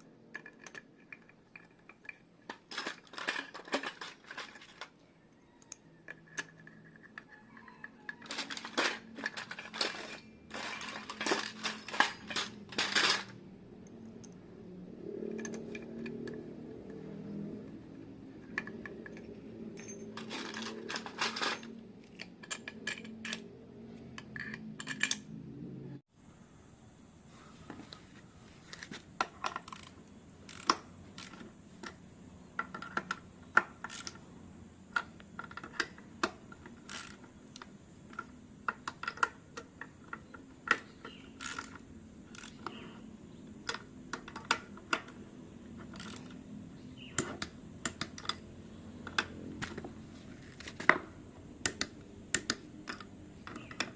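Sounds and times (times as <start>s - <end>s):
metal parts and tools clinking: 0.1s - 14.4s, 15.0s - 25.6s, 28.6s - 53.9s.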